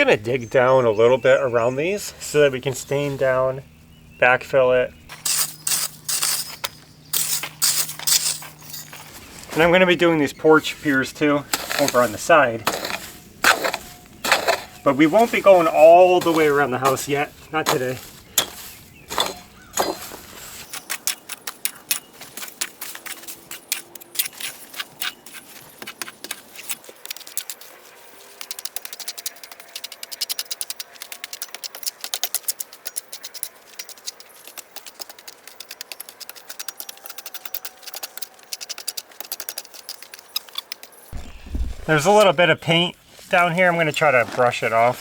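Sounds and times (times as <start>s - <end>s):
hand tool scraping soil and concrete: 0.5s - 3.6s, 5.0s - 45.0s.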